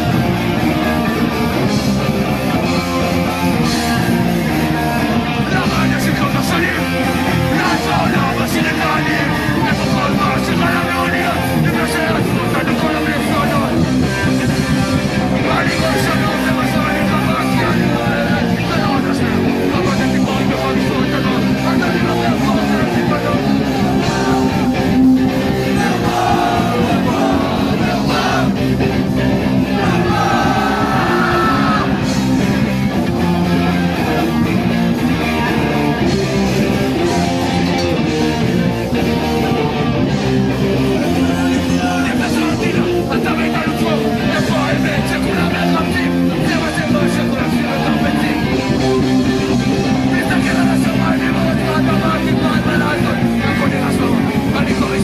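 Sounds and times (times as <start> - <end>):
drums: 0.0 - 55.0
electric guitar: 0.0 - 55.0
shouted vocals: 2.5 - 14.6, 15.2 - 38.0, 38.9 - 55.0.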